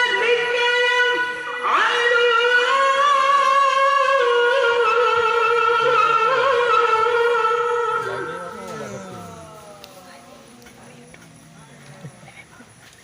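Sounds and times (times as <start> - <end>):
person reciting in a high voice: 0.0 - 11.4.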